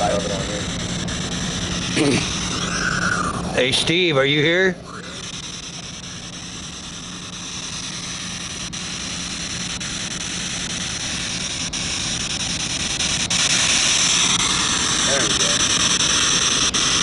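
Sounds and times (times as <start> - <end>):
low hum: 0.0 - 17.0
radio static hiss: 0.0 - 17.0.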